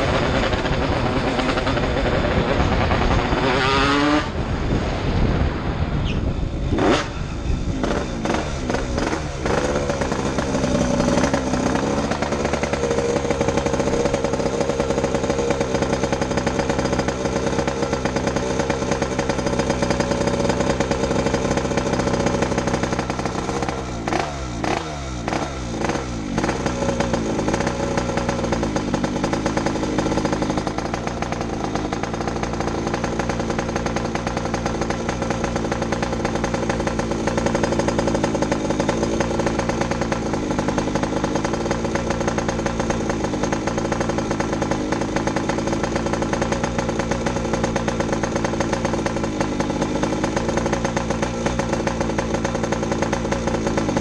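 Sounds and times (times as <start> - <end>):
two-stroke motorcycle engine running: 0.0 - 4.8, 5.6 - 54.0.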